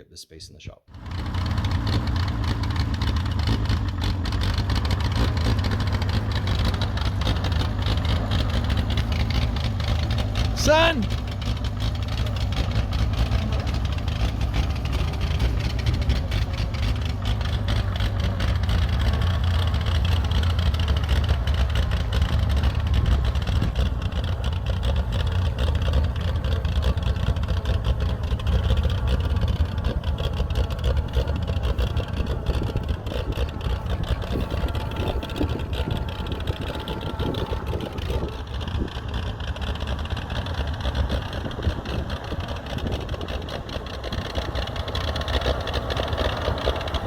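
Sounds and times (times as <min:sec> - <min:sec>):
tractor engine running rough: 0:00.9 - 0:47.0.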